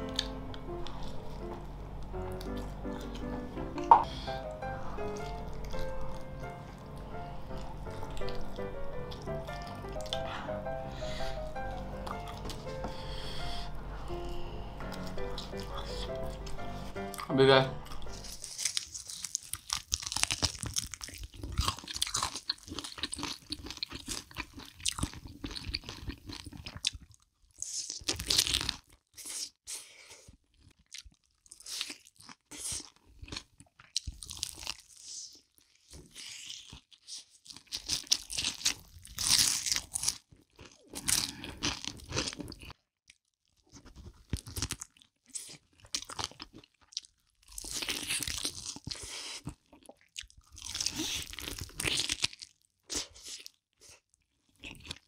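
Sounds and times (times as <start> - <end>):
chewing crunchy fried chicken: 0.0 - 55.0.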